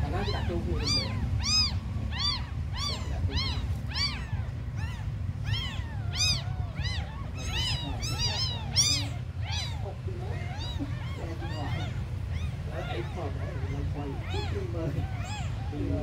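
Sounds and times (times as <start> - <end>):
kittens mewing: 0.0 - 16.0
low steady rumble: 0.0 - 16.0.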